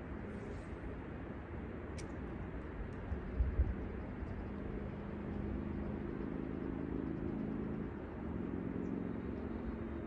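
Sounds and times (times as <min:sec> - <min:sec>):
distant engine hum: 0:00.0 - 0:10.0
outdoor background rush: 0:00.0 - 0:10.0.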